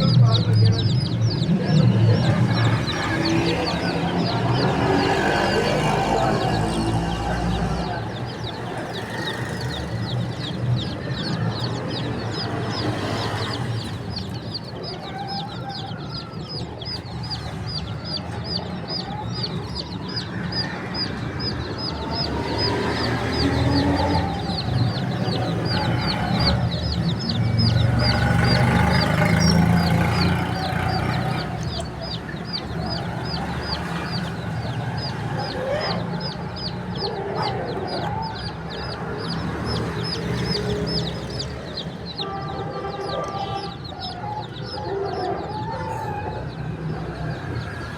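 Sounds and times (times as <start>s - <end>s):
baby chicks peeping: 0.0s - 47.9s
lower calls: 0.0s - 47.9s.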